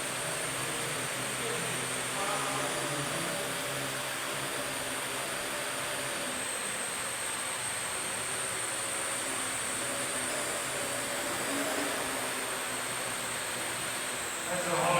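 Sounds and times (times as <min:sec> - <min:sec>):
drone propellers whirring: 0:00.0 - 0:14.9.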